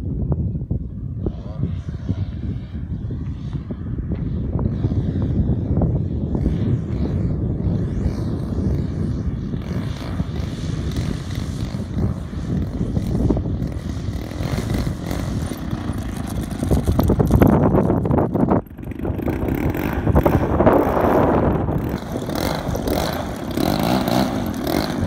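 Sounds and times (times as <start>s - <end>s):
wind buffeting microphone: 0.0s - 25.0s
model plane engine running: 0.6s - 25.0s.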